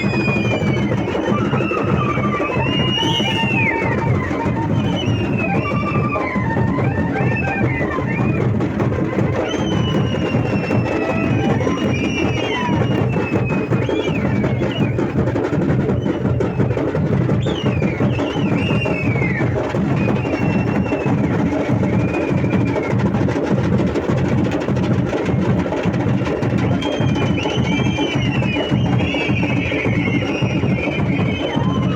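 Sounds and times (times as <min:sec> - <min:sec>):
drums fast driving beat: 0:00.0 - 0:31.9.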